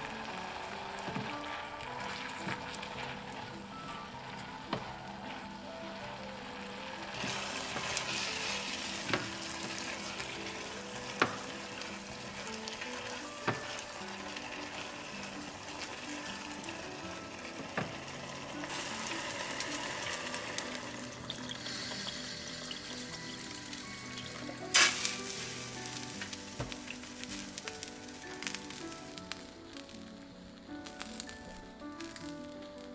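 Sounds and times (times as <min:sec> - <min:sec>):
vegetables sizzling in a pot: 0:00.0 - 0:32.9.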